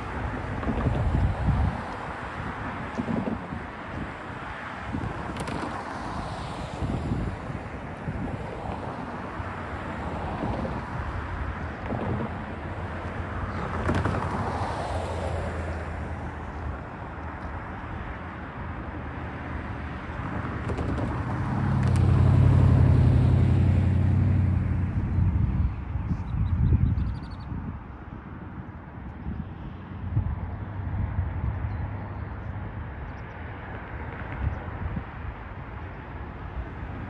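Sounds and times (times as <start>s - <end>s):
cars passing: 0.0s - 37.0s.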